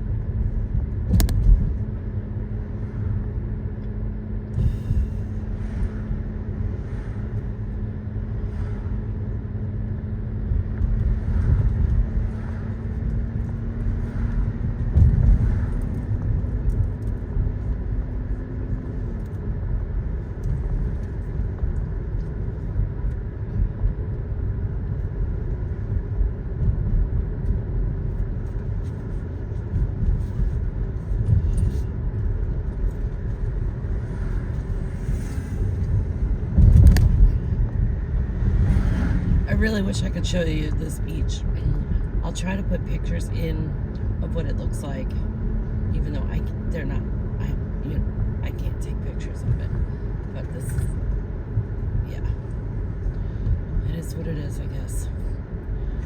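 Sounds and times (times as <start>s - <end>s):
car road rumble: 0.0s - 56.0s
engine hum rising in pitch: 0.0s - 56.0s.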